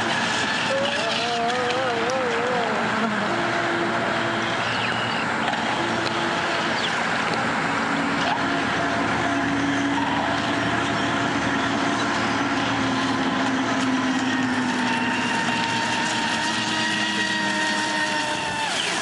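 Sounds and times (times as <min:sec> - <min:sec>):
model boat motor whine: 0:00.0 - 0:19.0.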